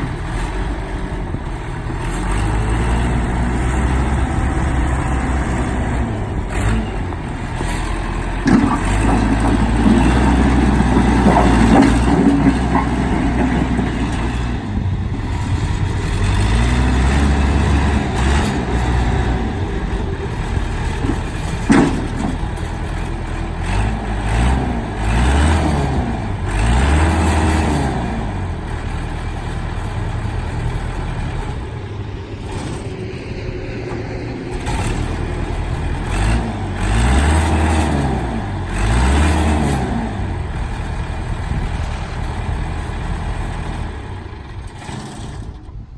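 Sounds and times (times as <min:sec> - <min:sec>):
backhoe diesel engine revving: 0:00.0 - 0:45.9.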